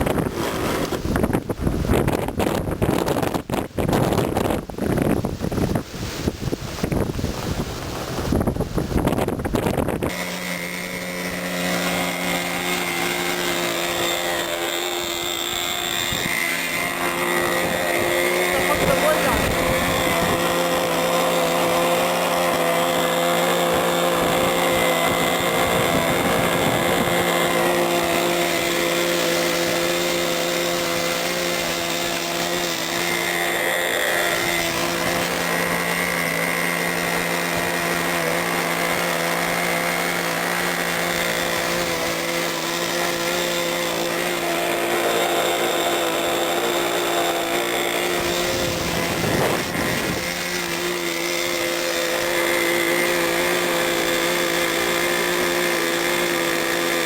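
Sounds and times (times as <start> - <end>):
model airplane engine running: 0.0 - 57.0.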